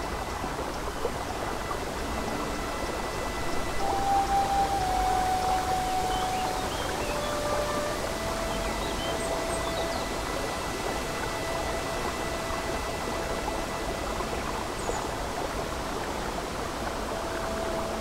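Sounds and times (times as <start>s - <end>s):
babbling brook: 0.0s - 18.0s
soft ambient music: 0.0s - 18.0s.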